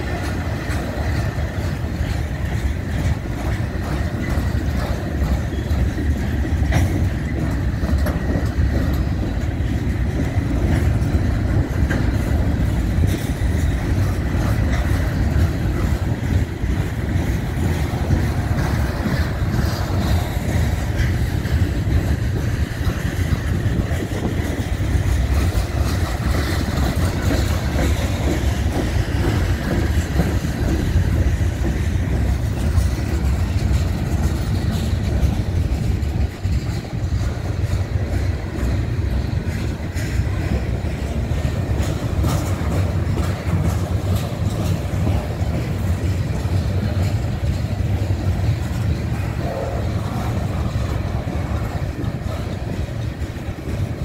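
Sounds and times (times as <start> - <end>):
freight train wheels rumbling: 0.0 - 54.0
rail clicks: 0.0 - 54.0.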